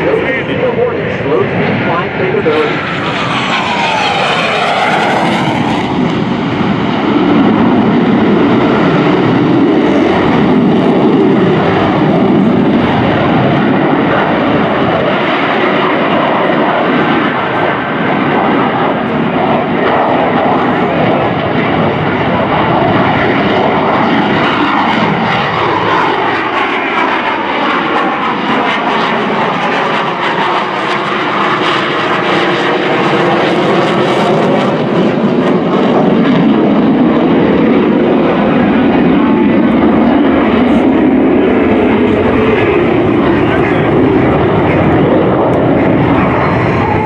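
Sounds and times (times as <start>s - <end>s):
jet engine noise: 0.0s - 47.0s.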